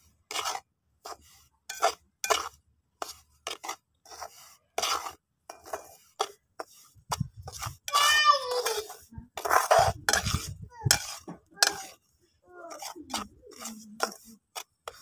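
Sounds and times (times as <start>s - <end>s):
metal spatula scraping pan: 0.0s - 15.0s.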